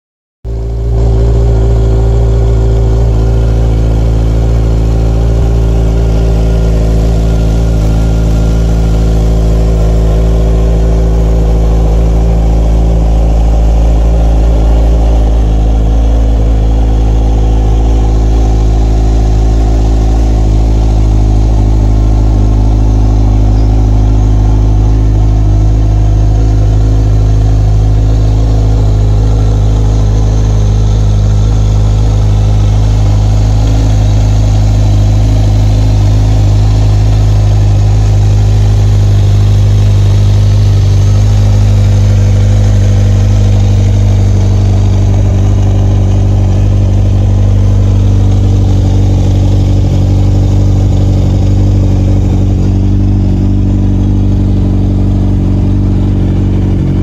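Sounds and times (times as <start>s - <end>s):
motorcycle engine idling: 0.4s - 57.0s.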